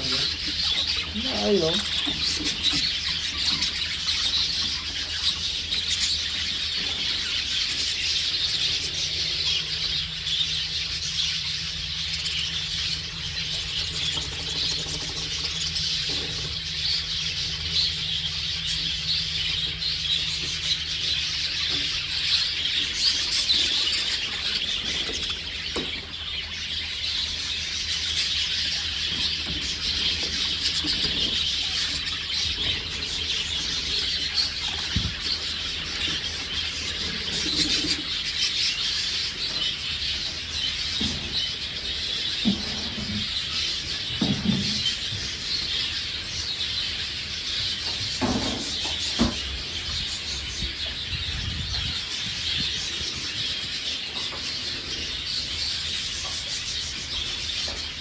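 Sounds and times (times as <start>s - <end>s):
steady low hum: 0.0s - 57.9s
budgerigars chattering and chirping: 0.0s - 58.0s.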